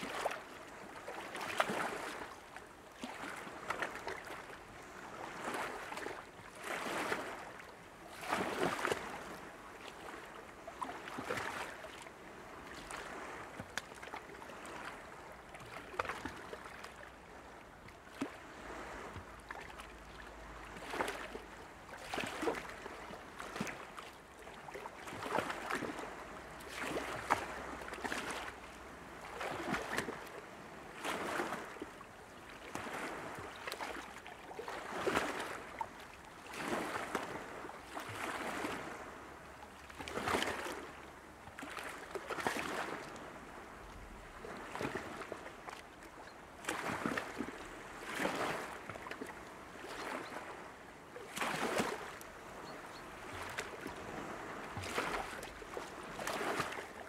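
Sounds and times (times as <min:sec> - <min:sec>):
small waves washing onto beach: 0:00.0 - 0:57.0.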